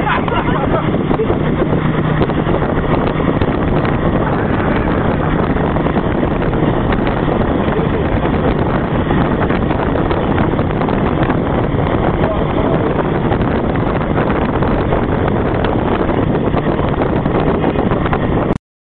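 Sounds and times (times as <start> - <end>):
vehicle engine running: 0.0 - 18.6
wind buffeting microphone: 0.0 - 18.6.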